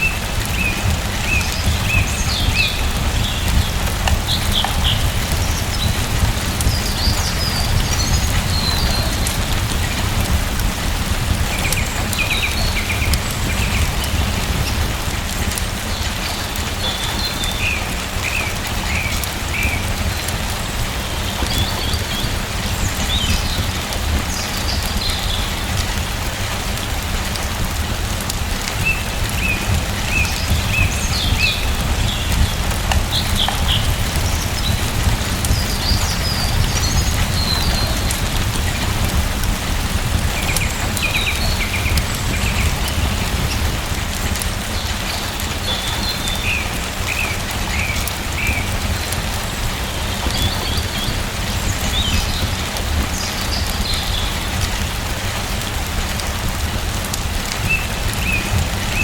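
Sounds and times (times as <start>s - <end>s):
birds chirping: 0.0s - 55.6s, 57.5s - 59.0s
steady rain: 0.0s - 59.0s.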